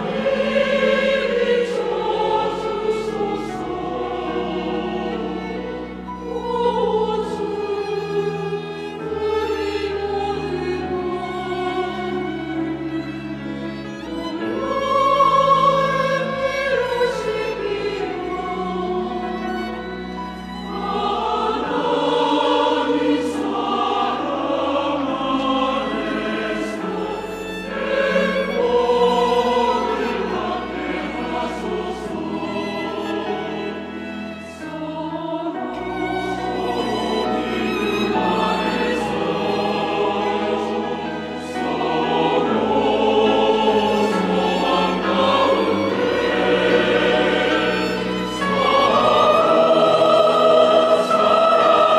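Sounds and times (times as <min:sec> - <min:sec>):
church choir singing: 0:00.0 - 0:51.9.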